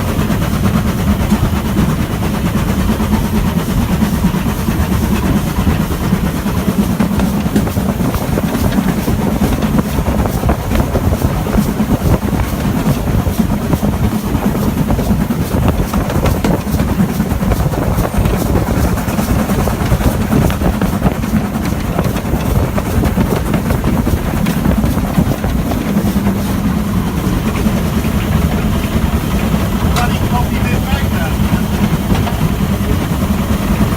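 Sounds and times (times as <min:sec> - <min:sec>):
train rumbling on the line: 0:00.0 - 0:33.9
train wheel clicks: 0:00.0 - 0:33.9.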